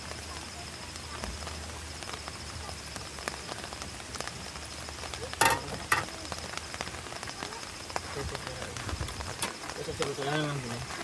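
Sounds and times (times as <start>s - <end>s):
rain pattering on car roof: 0.0s - 11.0s.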